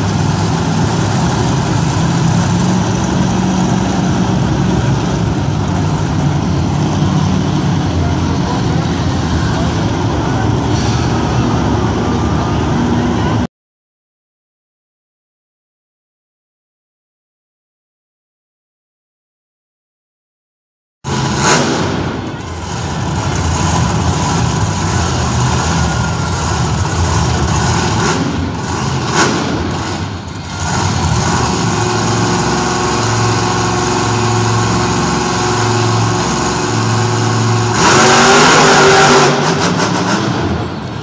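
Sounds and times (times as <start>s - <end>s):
monster truck engine revving: 0.0s - 13.4s, 21.1s - 41.0s.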